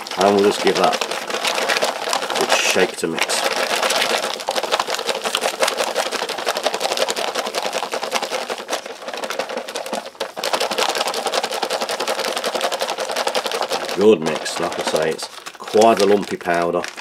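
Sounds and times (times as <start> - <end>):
drink pouch shaken rustling sloshing: 0.0 - 17.0.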